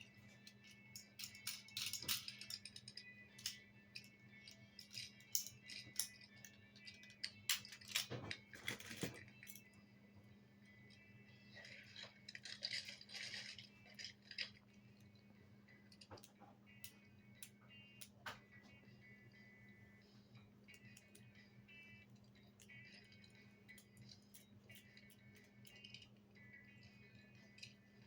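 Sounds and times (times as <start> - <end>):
toy rattle: 0.0 - 9.8, 10.8 - 18.2, 20.3 - 28.0
toy vehicles clicking and knocking: 0.0 - 9.8, 10.8 - 18.8, 20.7 - 28.0
faint steady hum: 0.0 - 28.0.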